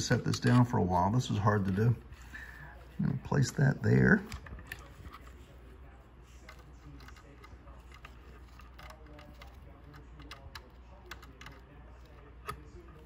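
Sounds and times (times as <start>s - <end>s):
fingers rustling wires: 0.0s - 13.0s.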